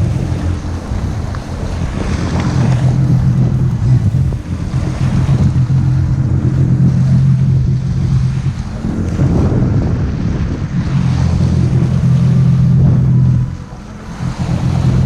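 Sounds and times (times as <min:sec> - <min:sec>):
jet ski engine humming: 0:00.0 - 0:15.0
water noise: 0:00.0 - 0:15.0
wind buffeting microphone: 0:00.0 - 0:15.0.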